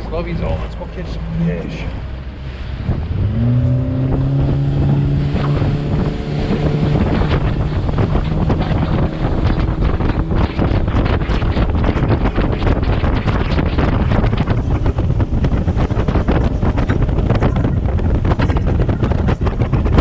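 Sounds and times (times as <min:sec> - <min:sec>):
boat motor throttling up: 0:00.0 - 0:20.0
wind buffeting microphone: 0:00.0 - 0:20.0.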